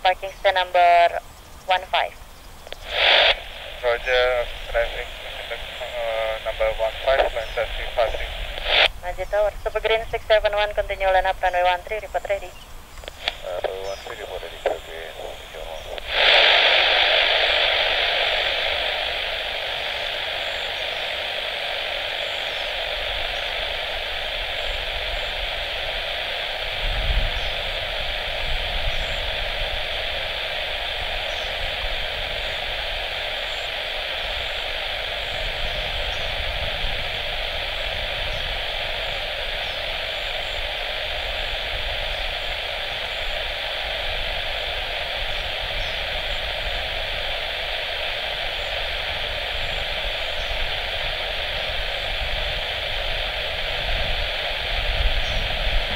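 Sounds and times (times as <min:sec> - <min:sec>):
radio static hiss: 0:00.0 - 0:55.9.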